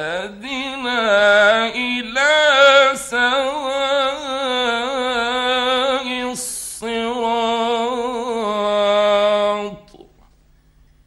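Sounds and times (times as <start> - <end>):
man reciting in long held note: 0.0 - 10.0.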